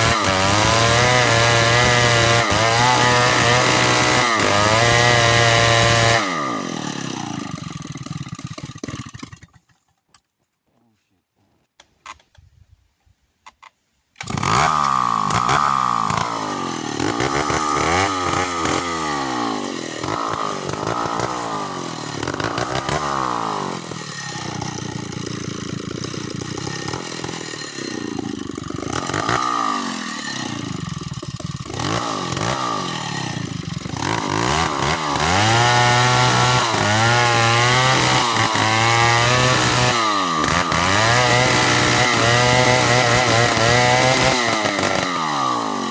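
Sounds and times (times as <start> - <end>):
chainsaw engine revving: 0.0 - 9.7, 14.2 - 45.9.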